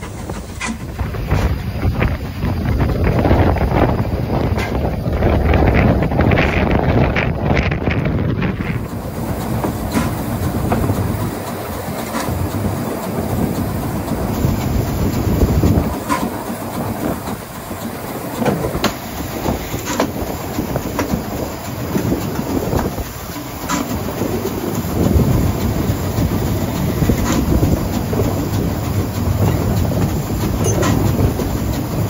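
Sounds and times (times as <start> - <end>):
steam train rumbling: 0.0 - 32.0
wheels clicking over rail joints: 0.0 - 32.0.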